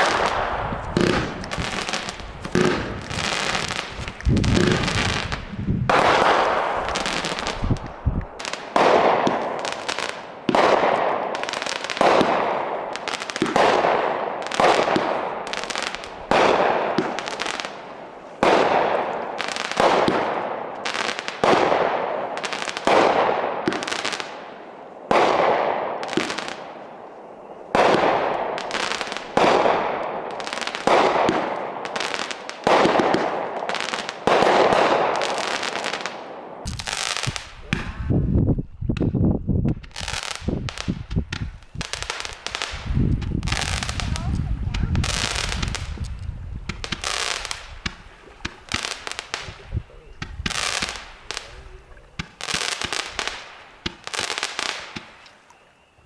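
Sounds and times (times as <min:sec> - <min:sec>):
fireworks banging: 0:00.0 - 0:24.4, 0:27.7 - 0:55.3.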